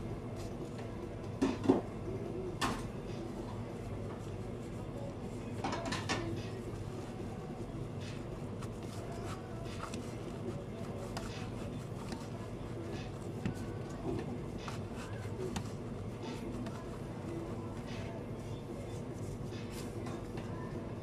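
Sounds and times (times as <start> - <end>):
kitchen background hum: 0.0 - 21.0.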